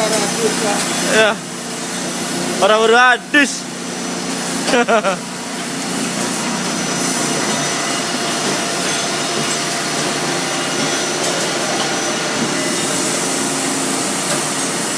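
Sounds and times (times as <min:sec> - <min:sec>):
production-line machinery running: 0:00.0 - 0:14.9.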